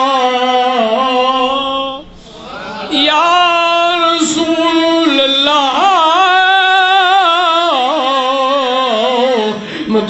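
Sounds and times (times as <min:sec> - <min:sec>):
man chanting into a microphone: 0:00.0 - 0:10.0.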